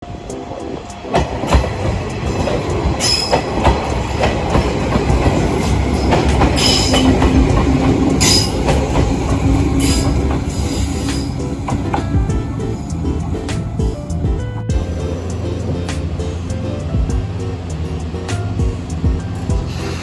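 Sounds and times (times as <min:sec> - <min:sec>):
train wheels knocking over rail joints: 0:01.1 - 0:14.0, 0:14.7 - 0:20.0.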